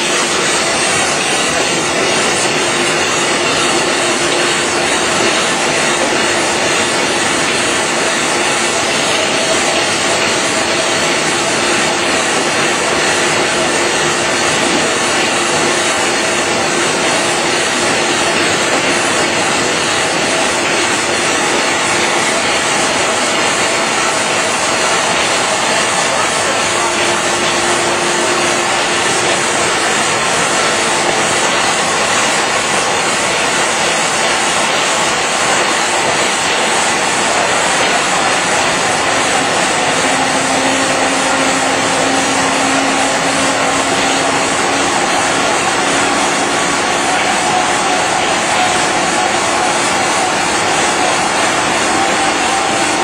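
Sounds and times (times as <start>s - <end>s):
printing machine running: 0.0s - 53.0s.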